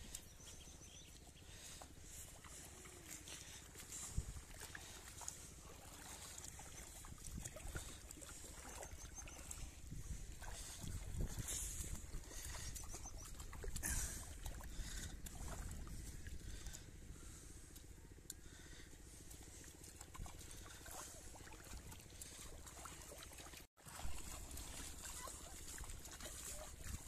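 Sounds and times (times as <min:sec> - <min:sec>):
feet splashing in water: 0:00.0 - 0:27.0
low steady rumble: 0:00.0 - 0:27.0.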